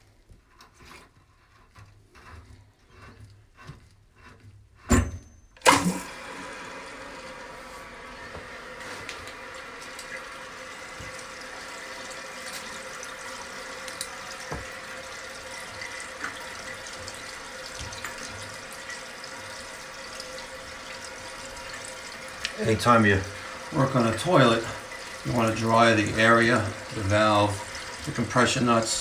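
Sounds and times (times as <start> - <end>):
water running into toilet tank: 1.4 - 29.0.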